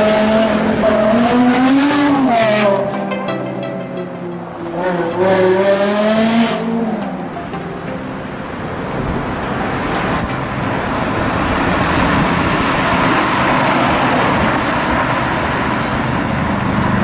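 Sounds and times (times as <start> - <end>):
road traffic engine and tyre noise: 0.0 - 17.0.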